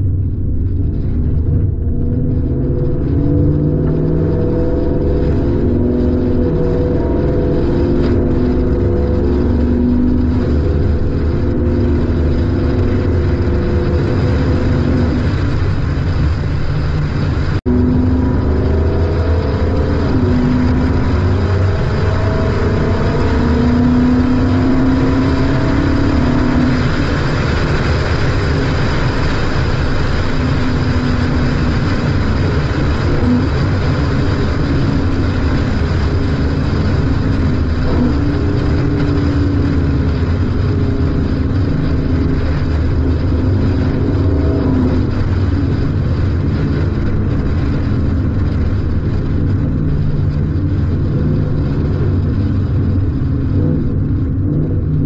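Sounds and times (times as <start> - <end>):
car engine and exhaust driving: 0.0 - 55.0
road noise: 0.0 - 55.0
wind noise: 0.0 - 55.0.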